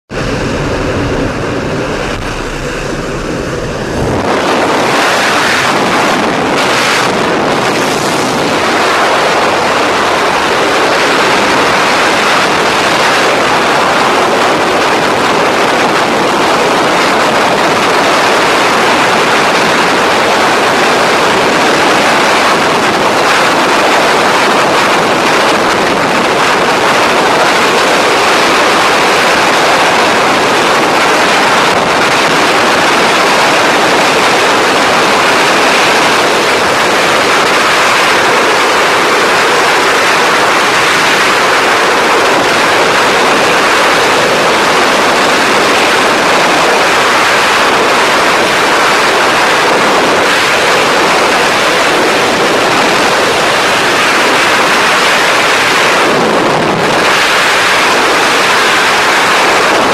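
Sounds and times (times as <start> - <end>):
aircraft engine drone: 0.0 - 59.9
freefall wind rushing: 0.0 - 59.9.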